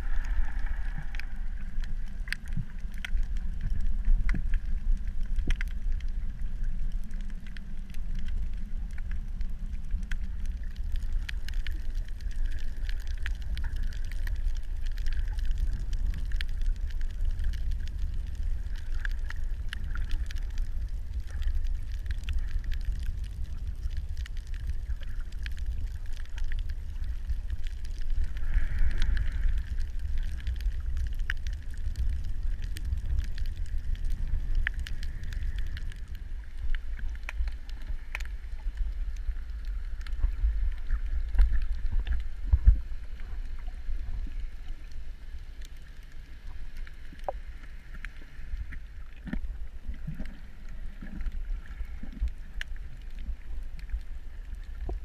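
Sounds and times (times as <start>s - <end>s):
faint clicks and crackles: 0.0s - 55.0s
low rumble of moving water: 0.0s - 55.0s.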